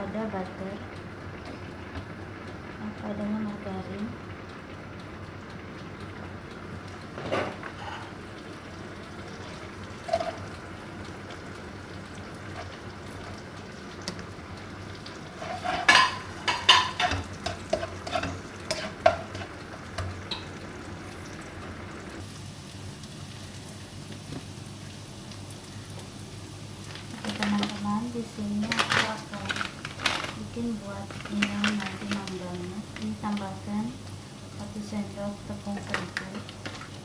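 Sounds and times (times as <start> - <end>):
onion sizzling in wok: 0.0 - 37.0.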